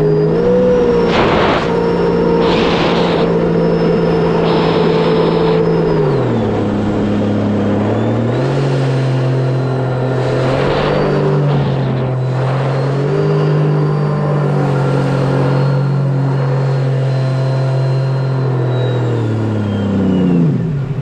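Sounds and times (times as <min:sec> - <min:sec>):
jet ski engine running hard: 0:00.0 - 0:21.0.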